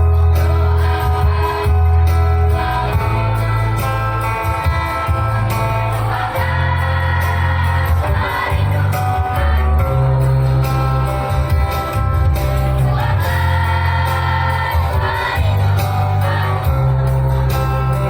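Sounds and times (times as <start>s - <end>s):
choir singing: 0.0s - 10.7s, 12.7s - 17.5s
deep bass line: 0.0s - 18.0s
instrumental accompaniment: 0.0s - 18.0s.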